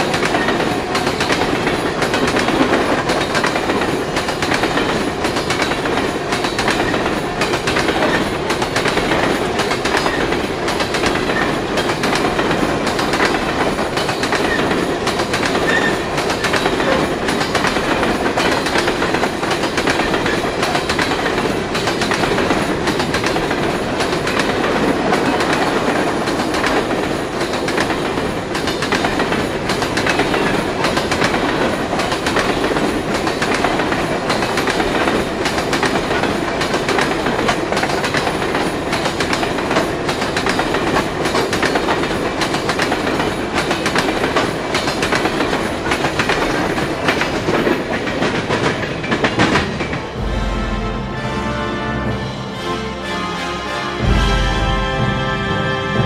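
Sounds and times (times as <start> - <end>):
steel wheels clattering over rail joints: 0.0 - 50.2
freight train rumbling past: 0.0 - 56.0.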